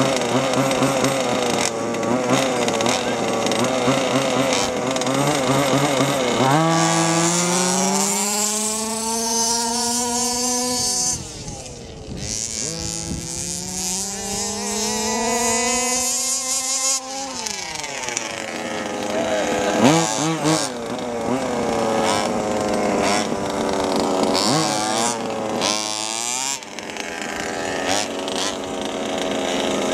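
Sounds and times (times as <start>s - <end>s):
rc car engines revving: 0.0s - 29.9s.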